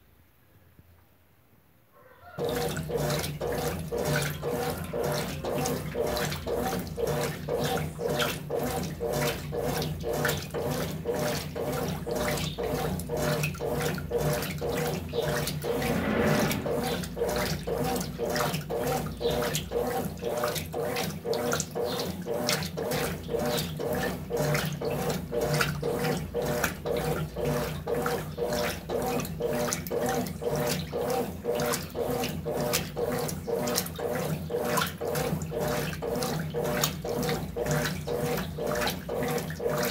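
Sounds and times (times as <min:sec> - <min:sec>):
washing machine water sloshing: 0:02.4 - 0:16.4, 0:17.1 - 0:39.9
washing machine motor hum: 0:02.4 - 0:39.9.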